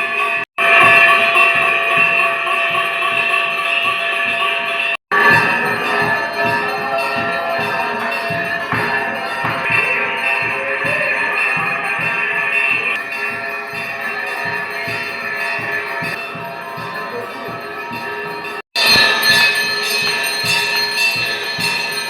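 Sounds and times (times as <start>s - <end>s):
temple bells ringing: 0.0s - 22.0s.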